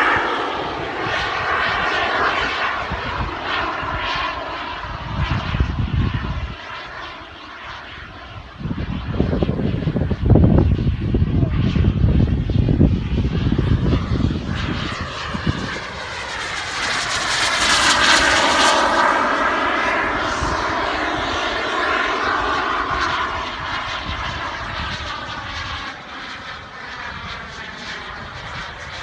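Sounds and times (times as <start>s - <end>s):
aircraft engine passing by: 0.0s - 29.0s.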